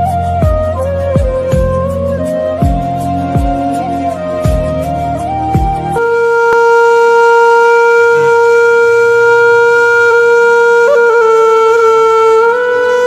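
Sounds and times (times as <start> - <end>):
wind instrument long note: 0.0 - 13.0.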